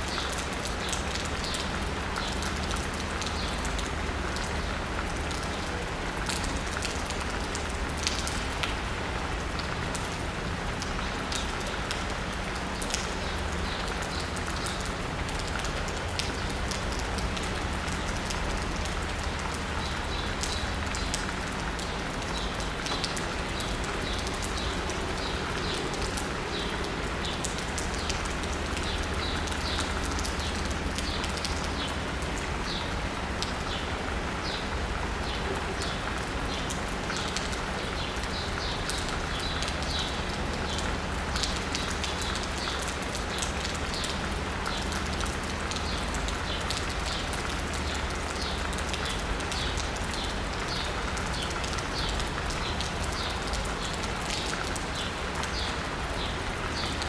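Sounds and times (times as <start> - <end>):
distant city traffic rumble: 0.0 - 57.0
rain pattering on asphalt: 0.0 - 57.0.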